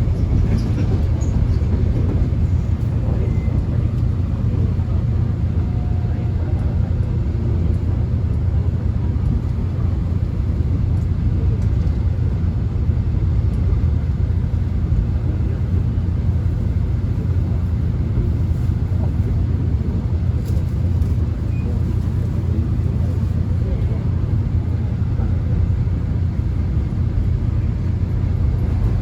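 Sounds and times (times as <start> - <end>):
subway train running: 0.0 - 29.0.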